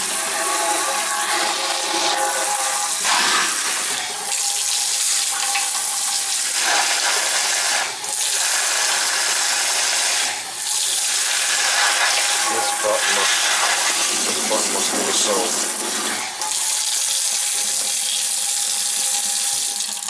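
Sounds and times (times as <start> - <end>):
faucet stream running: 0.0 - 20.0
water spraying into steel sink: 0.0 - 20.0.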